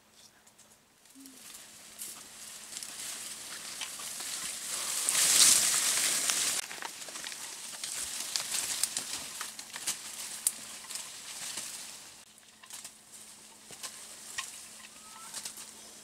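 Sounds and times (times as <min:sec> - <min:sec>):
leaves and branches rustling: 0:00.5 - 0:16.0
twigs snapping: 0:01.1 - 0:15.8.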